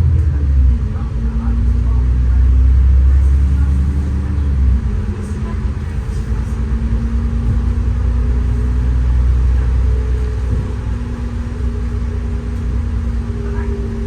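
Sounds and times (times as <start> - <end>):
bus engine drone: 0.0 - 14.0
deep road rumble: 0.0 - 14.0.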